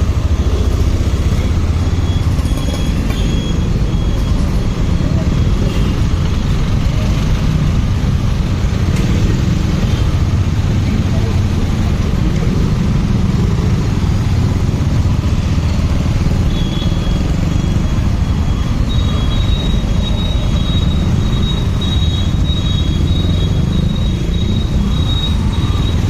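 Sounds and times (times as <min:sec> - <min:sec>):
motorcycle engine rumble: 0:00.0 - 0:26.0
wind: 0:00.0 - 0:26.0.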